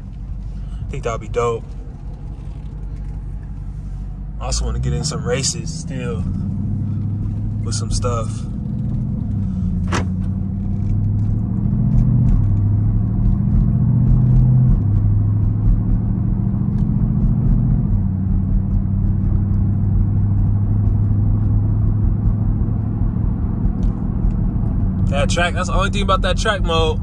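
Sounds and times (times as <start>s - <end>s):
car engine drone from inside cabin: 0.0s - 27.0s.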